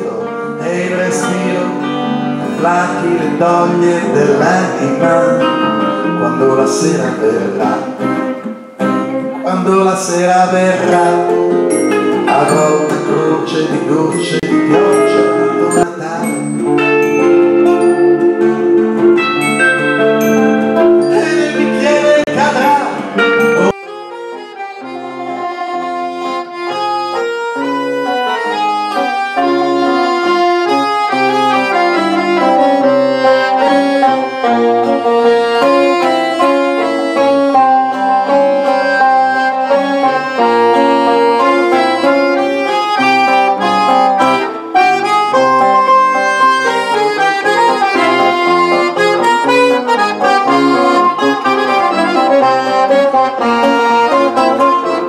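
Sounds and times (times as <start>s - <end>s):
accordion melody: 0.0s - 55.0s
live acoustic music: 0.0s - 55.0s.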